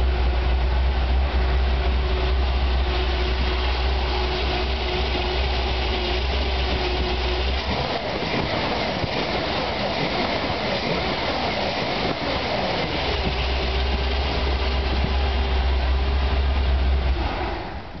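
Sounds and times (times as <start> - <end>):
car engine rough idle: 0.0 - 18.0.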